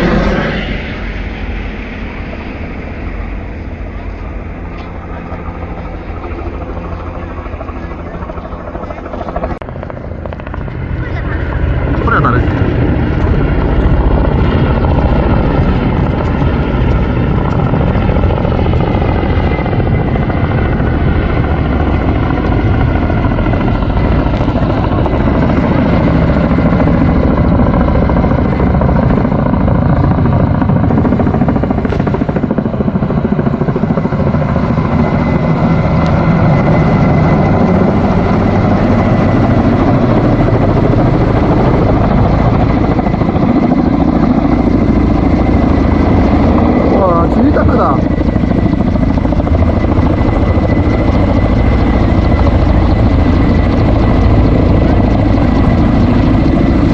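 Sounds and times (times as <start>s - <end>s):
helicopter rotor noise: 0.0s - 56.9s.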